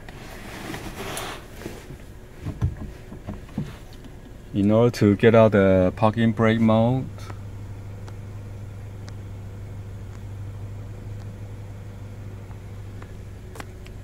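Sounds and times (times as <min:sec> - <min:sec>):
car engine idling: 0:02.0 - 0:14.0.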